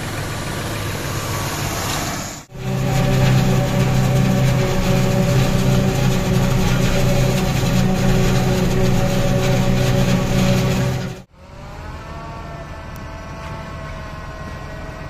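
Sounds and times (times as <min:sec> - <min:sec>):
harvester engine drone: 0:00.0 - 0:15.0
quieter engine sound: 0:00.0 - 0:15.0.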